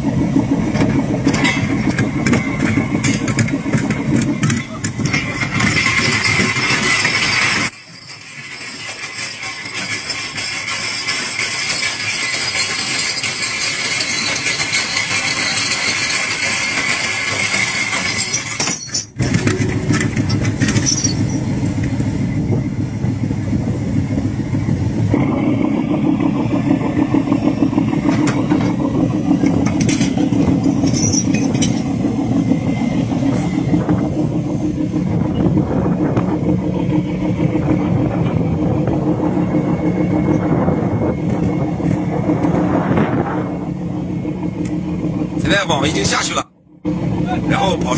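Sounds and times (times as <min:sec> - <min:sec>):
boat engine droning: 0:00.0 - 0:47.9.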